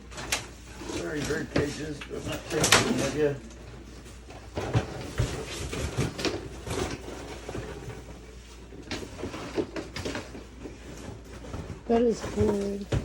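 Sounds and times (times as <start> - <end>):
objects knocking and clattering: 0.0 - 13.0.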